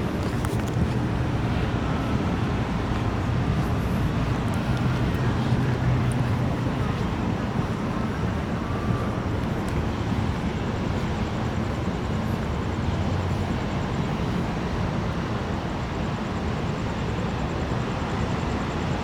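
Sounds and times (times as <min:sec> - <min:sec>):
rain: 0:00.0 - 0:16.0
wind buffeting microphone: 0:00.0 - 0:16.0.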